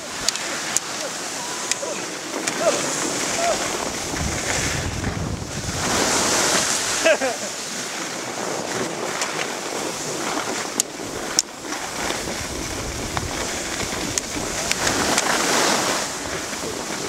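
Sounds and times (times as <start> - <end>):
skis scraping over snow: 0.0 - 17.0
wind on microphone: 0.0 - 17.0.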